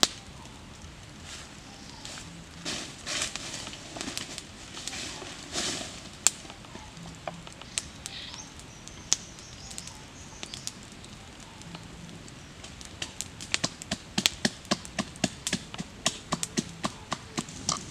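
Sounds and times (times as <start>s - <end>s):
dry leaves rustling: 0.0s - 17.9s.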